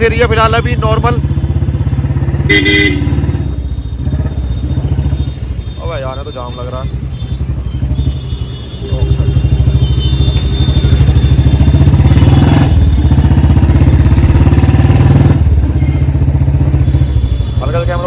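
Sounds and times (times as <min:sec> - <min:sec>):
motorcycle engine running: 0:00.0 - 0:05.6, 0:07.0 - 0:18.0.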